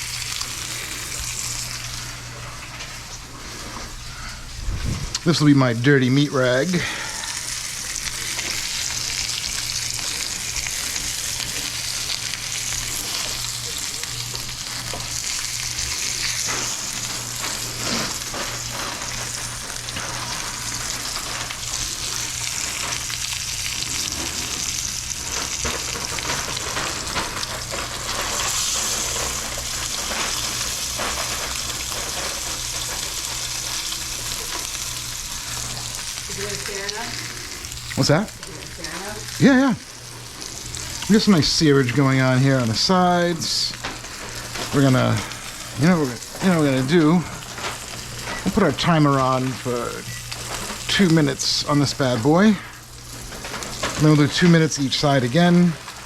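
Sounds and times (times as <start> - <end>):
meat sizzling in a hot pan: 0.0 - 3.2, 5.6 - 56.0.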